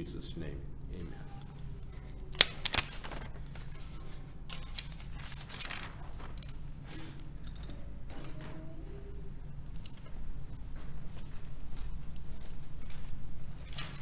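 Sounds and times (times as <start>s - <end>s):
steady low hum: 0.0s - 14.0s
paper shuffling: 1.0s - 8.7s, 9.7s - 14.0s.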